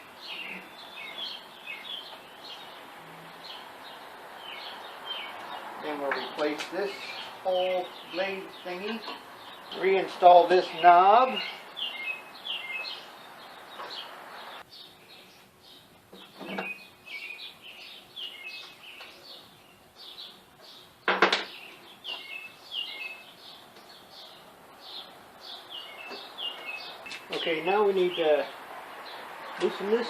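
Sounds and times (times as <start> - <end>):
small bird chirping: 0.0 - 10.0, 10.7 - 30.0.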